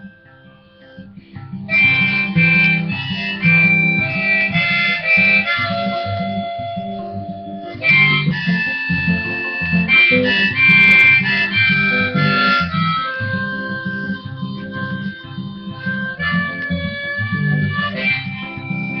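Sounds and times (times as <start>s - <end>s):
harmonica held notes: 0.0s - 19.0s
strummed acoustic guitar: 0.0s - 19.0s.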